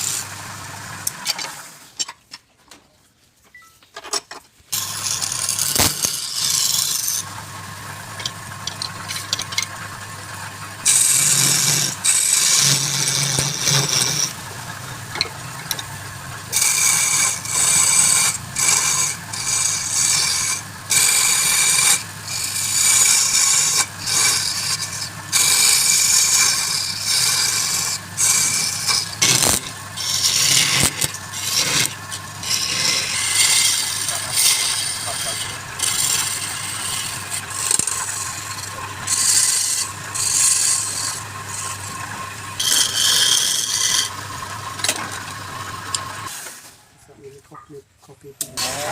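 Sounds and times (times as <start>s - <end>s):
tool scraping spinning wood: 0.0s - 2.1s, 4.7s - 47.0s, 48.4s - 48.9s
wood lathe humming: 4.7s - 46.4s.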